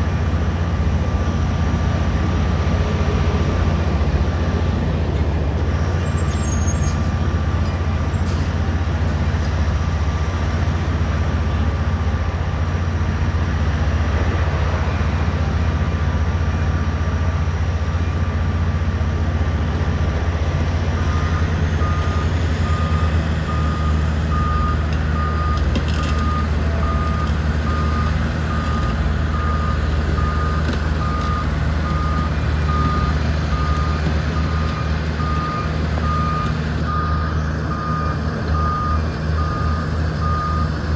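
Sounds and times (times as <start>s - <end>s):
excavator diesel engines running: 0.0s - 40.9s.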